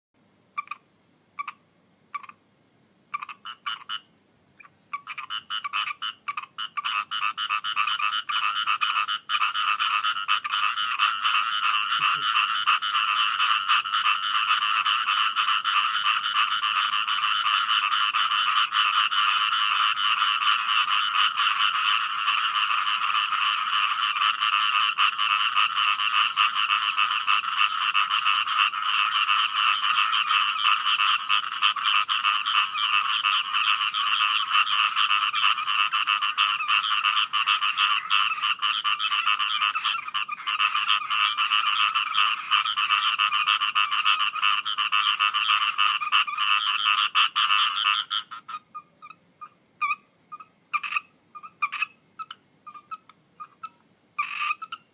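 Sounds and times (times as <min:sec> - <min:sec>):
frogs croaking: 0:00.2 - 0:54.9.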